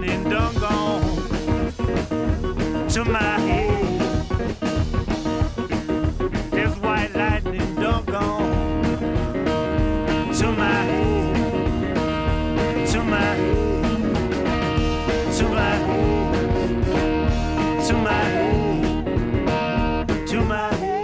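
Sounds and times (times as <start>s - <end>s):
blues song with guitar and singing: 0.0s - 21.0s.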